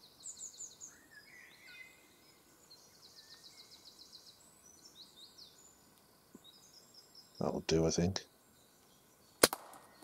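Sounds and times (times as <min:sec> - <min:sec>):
woodland birdsong: 0:00.0 - 0:10.0.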